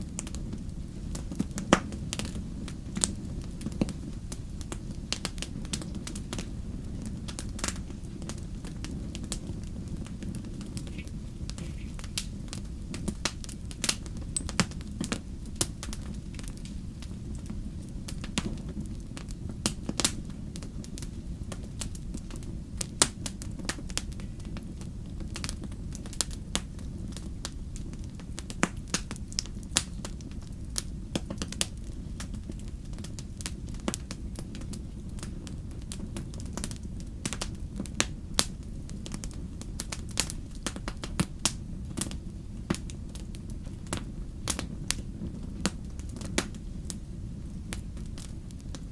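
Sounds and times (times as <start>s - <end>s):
burning wood crackling and popping: 0.0s - 48.9s
campfire rumble: 0.0s - 48.9s.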